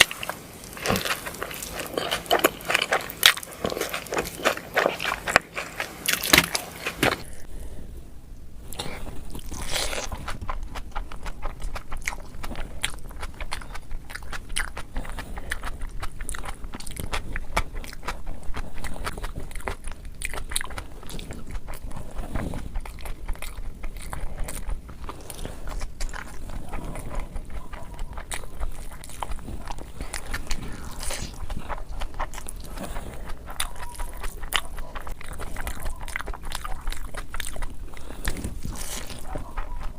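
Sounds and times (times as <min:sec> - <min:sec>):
chewing crisp food: 0:00.0 - 0:07.5, 0:08.7 - 0:39.9.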